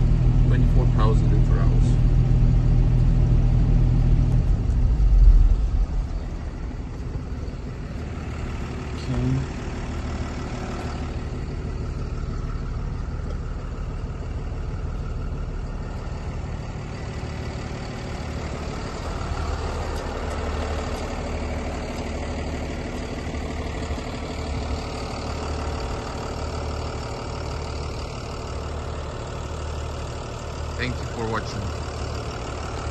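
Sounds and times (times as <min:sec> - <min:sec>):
refrigeration unit drone: 0:00.0 - 0:32.9.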